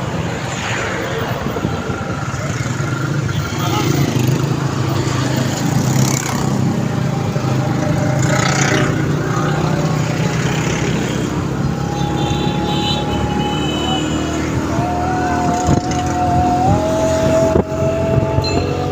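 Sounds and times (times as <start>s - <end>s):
road and air noise: 0.0s - 18.9s.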